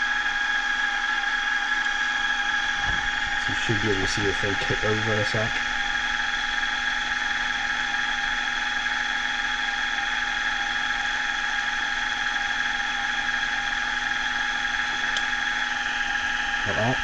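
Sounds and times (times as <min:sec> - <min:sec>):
milling machine spindle whine: 0:00.0 - 0:17.0.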